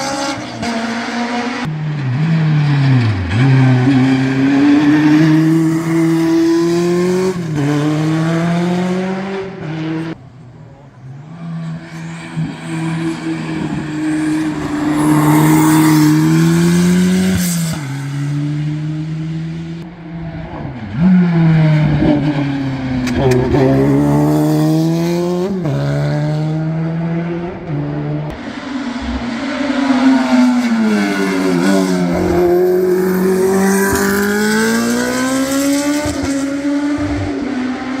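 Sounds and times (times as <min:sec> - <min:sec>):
racing car engine at full throttle: 0:00.0 - 0:38.0.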